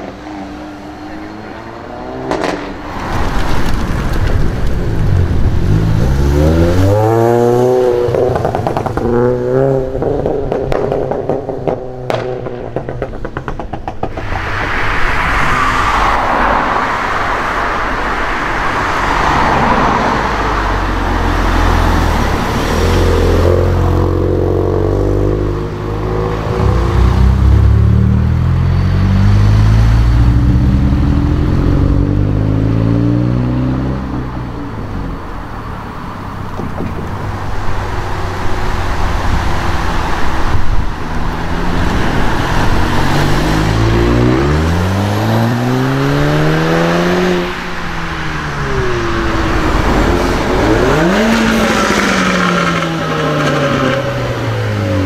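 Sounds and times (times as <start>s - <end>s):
car engines revving: 0.0s - 55.0s
car rushing past: 0.0s - 55.0s.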